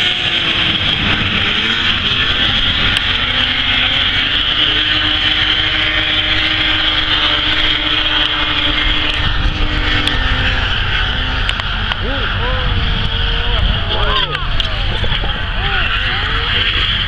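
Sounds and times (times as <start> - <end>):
snowmobile engines racing: 0.0 - 17.0.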